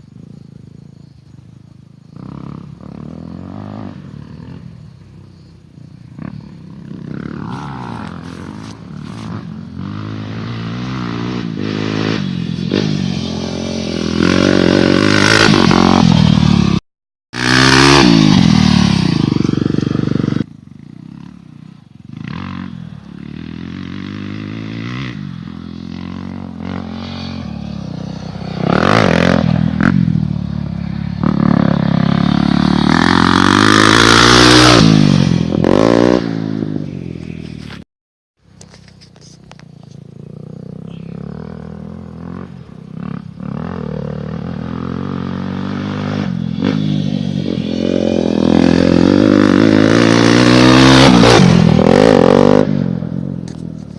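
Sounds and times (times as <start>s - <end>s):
motocross bike engine revving: 2.1s - 5.1s, 6.0s - 16.8s, 17.4s - 37.8s, 40.1s - 53.6s.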